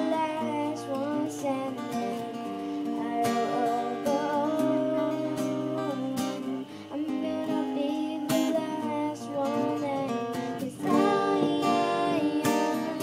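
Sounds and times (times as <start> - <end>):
acoustic guitar strumming: 0.0 - 13.0
girl singing into microphone: 0.0 - 13.0.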